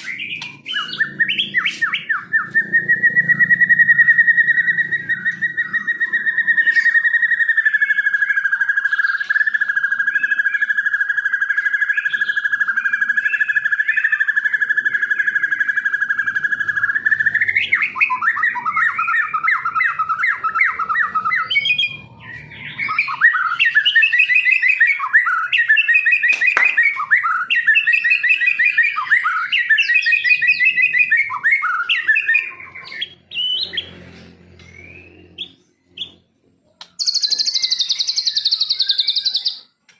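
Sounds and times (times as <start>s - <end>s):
songbird whistling and chirping: 0.0s - 39.9s.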